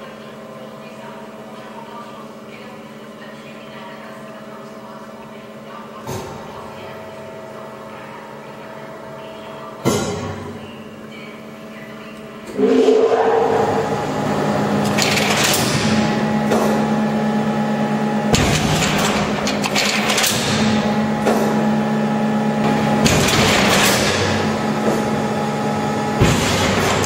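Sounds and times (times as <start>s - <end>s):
hydraulic power unit humming: 0.0s - 27.0s.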